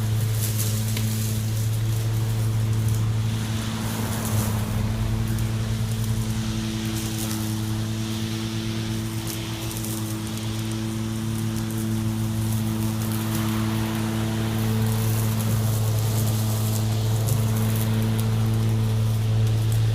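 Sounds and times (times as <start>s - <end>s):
even whooshing: 0.0s - 19.9s
lawn mower humming: 0.0s - 19.9s.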